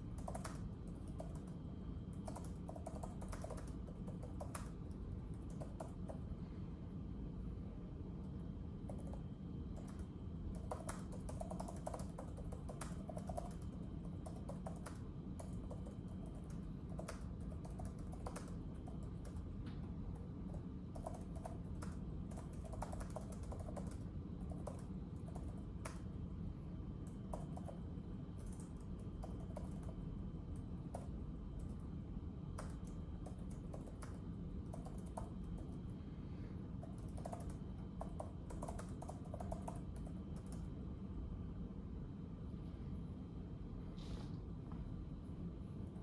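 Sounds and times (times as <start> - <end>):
low background hum: 0.0 - 46.0.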